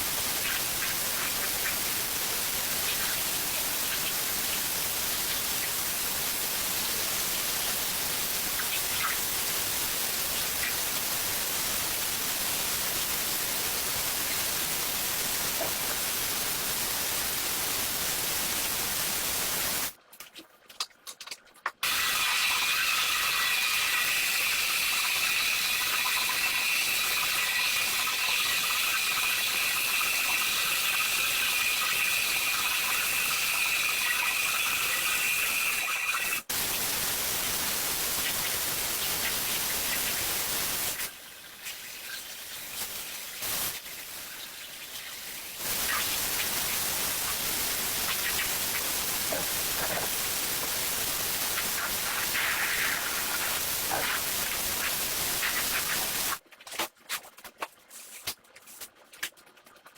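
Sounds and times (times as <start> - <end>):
cleaning spray hiss: 0.0 - 19.9, 21.8 - 56.4.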